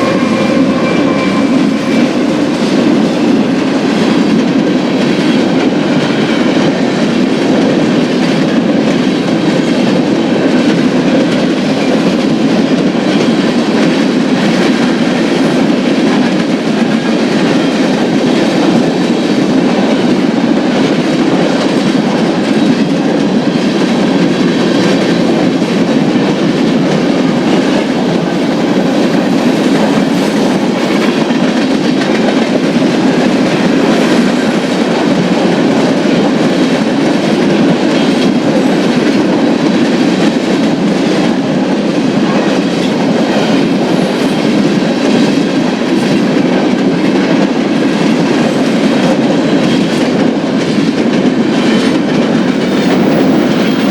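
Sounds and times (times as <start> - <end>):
freight train wheels clattering: 0.0 - 53.9.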